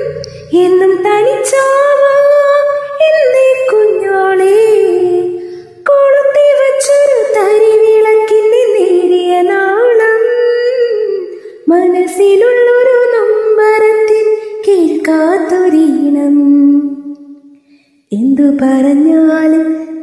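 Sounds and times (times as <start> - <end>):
woman singing slow song: 0.0 - 17.2, 18.1 - 20.0.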